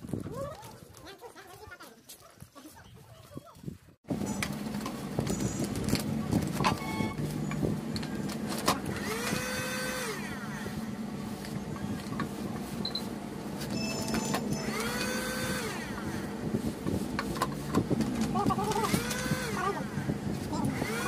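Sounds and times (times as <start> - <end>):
heat gun motor and fan hum: 4.1 - 21.0.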